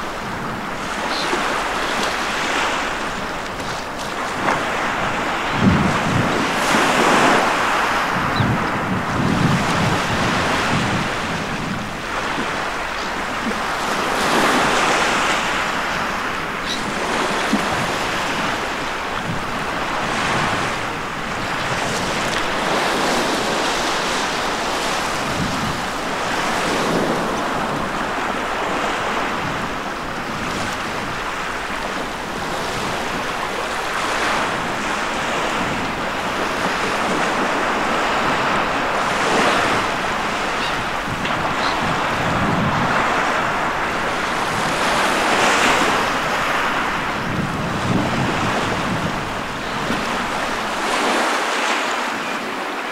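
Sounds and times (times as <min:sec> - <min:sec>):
small sea waves breaking: 0:00.0 - 0:52.9.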